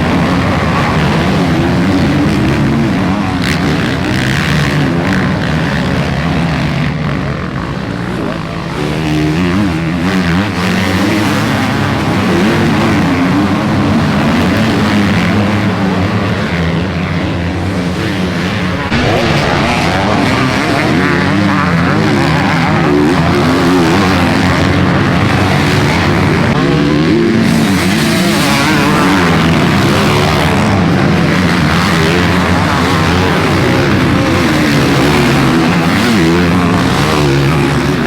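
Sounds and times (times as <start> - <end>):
motocross bike engines revving: 0.0 - 38.0.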